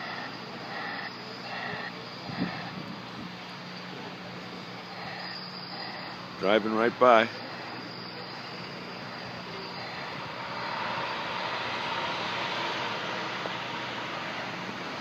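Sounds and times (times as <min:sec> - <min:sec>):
heavy machine engine and rolling: 0:00.0 - 0:15.0.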